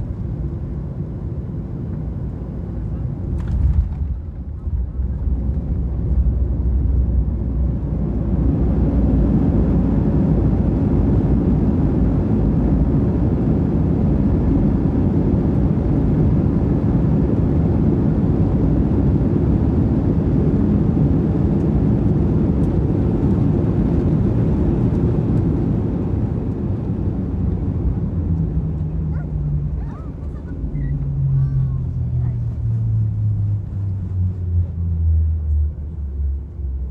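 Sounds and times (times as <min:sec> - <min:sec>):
airliner cabin engine rush: 0:00.0 - 0:36.9.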